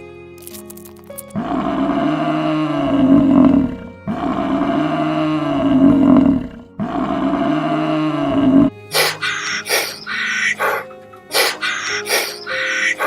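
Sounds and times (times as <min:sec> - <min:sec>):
steady musical tones: 0:01.1 - 0:13.0
large animal calling: 0:01.4 - 0:13.0.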